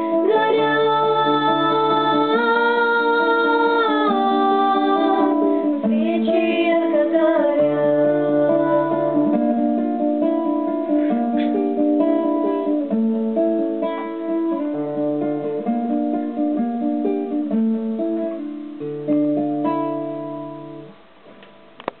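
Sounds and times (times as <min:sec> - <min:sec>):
guitar plucked chords: 0:00.0 - 0:22.0.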